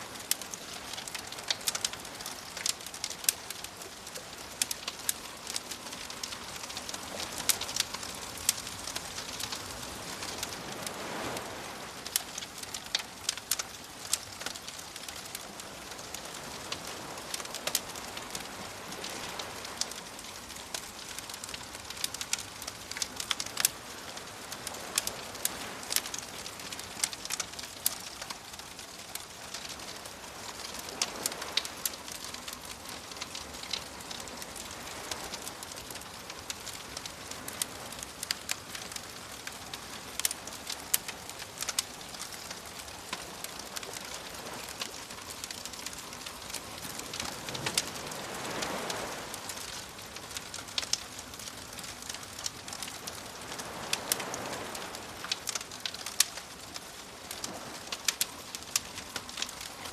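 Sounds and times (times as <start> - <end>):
bonfire crackling and popping: 0.0 - 59.9
gentle waves washing in: 0.0 - 59.9.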